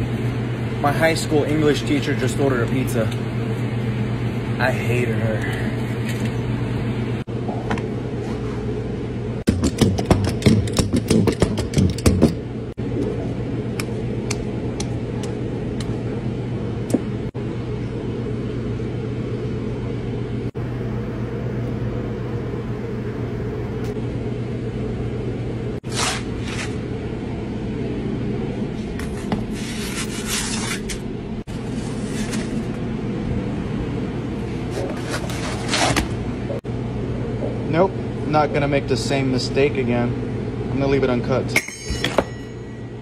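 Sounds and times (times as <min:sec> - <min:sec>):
kitchen equipment humming: 0:00.0 - 0:43.0.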